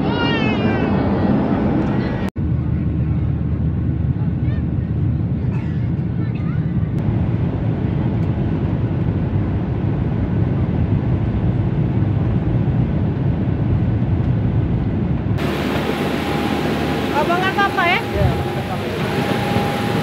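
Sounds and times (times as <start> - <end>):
airliner engine and airflow rumble: 0.0 - 20.0.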